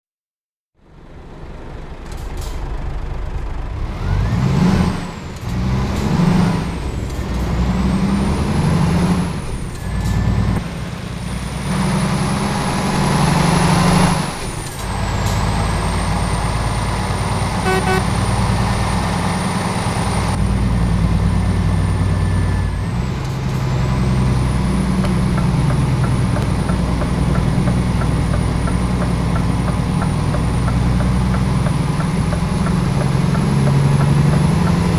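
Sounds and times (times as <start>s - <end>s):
diesel truck engine under load: 0.8s - 34.9s.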